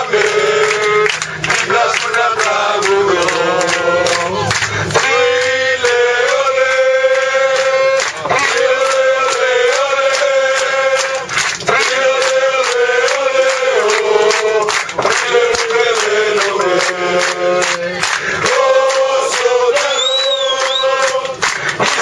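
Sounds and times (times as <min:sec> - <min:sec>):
men singing a football chant: 0:00.0 - 0:22.0
rhythmic hand-clapping: 0:00.0 - 0:22.0.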